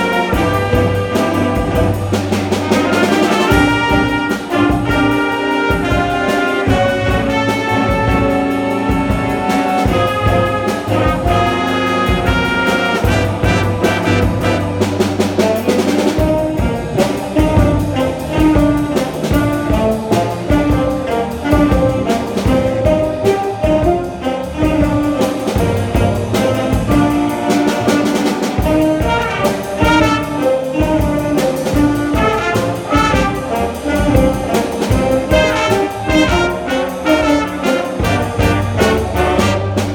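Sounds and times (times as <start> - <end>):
jazz band playing: 0.0 - 39.9.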